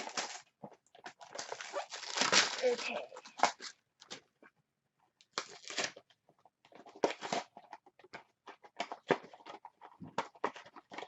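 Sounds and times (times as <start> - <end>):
packaging tearing and crinkling: 0.0 - 4.3, 5.3 - 11.0.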